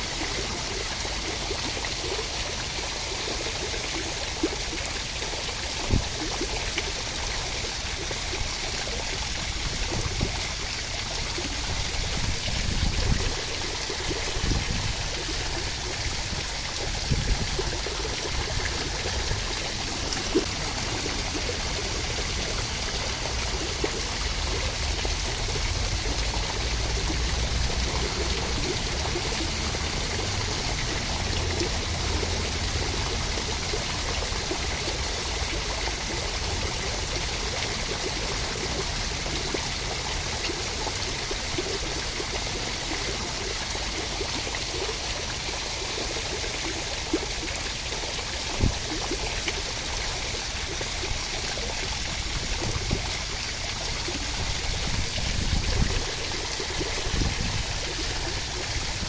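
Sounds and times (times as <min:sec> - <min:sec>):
falling water rushing: 0:00.0 - 0:59.0.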